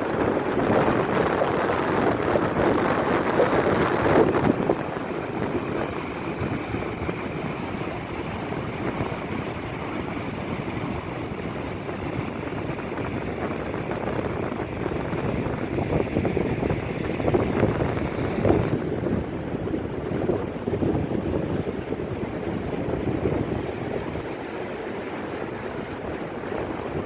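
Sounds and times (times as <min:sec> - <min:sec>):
ocean surf: 0:00.0 - 0:27.0
wind buffeting phone microphone: 0:00.0 - 0:27.0.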